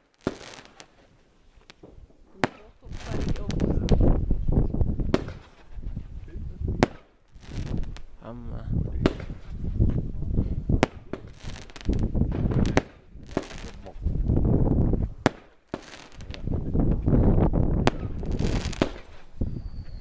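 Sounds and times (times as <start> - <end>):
fireworks bangs: 0.0 - 8.2, 8.8 - 20.0
hissing firework tails: 0.0 - 8.2, 8.8 - 20.0.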